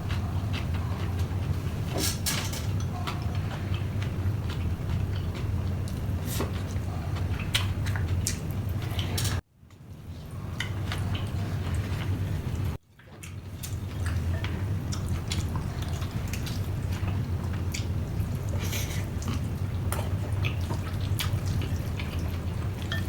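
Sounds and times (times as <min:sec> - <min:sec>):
chewing: 0:00.0 - 0:01.9, 0:02.7 - 0:23.0
steady low hum: 0:00.0 - 0:23.0.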